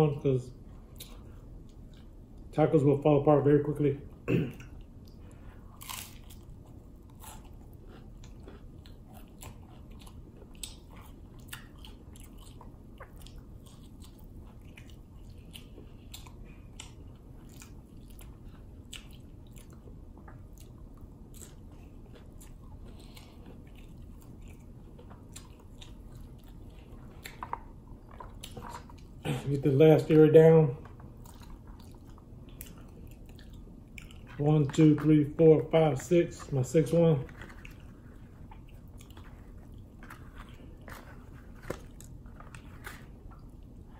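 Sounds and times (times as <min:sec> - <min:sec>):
low background hum: 0:00.0 - 0:43.9
man chewing crunchy taco shell: 0:04.2 - 0:30.2, 0:30.8 - 0:34.8, 0:37.2 - 0:43.9.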